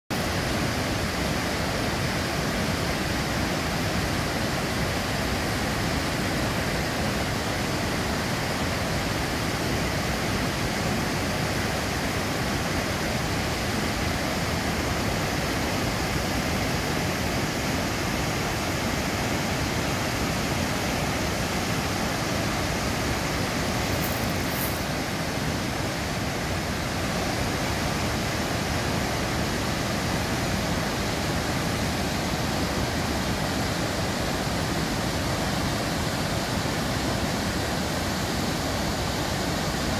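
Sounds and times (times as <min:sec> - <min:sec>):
white-water rapids rushing: 0:00.2 - 0:39.9.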